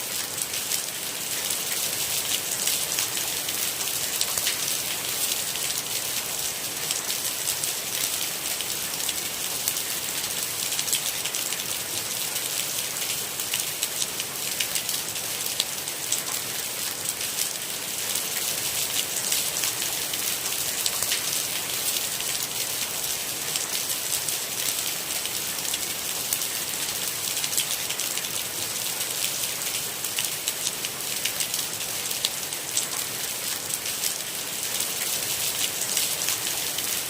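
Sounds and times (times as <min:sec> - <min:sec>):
steady rain patter: 0:00.0 - 0:37.0.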